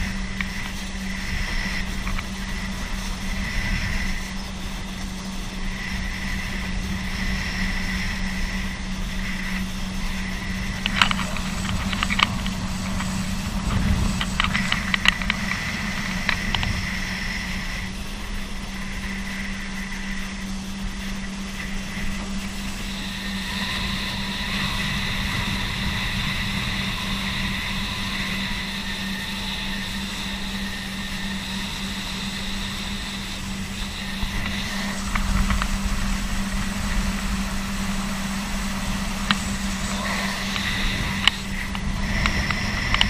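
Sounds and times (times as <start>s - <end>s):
high whine: 0.0s - 43.0s
rumbling wind: 0.0s - 43.0s
water rushing: 0.0s - 43.0s
watercraft engine running: 0.0s - 43.0s.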